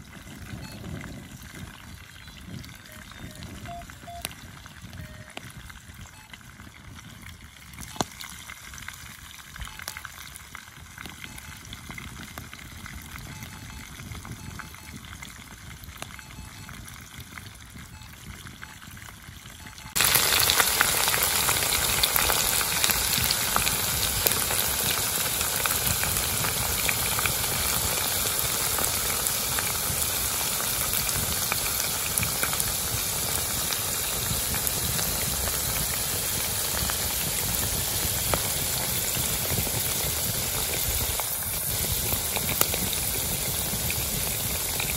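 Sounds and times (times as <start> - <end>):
chicken deep-frying in hot oil: 0.0 - 44.9.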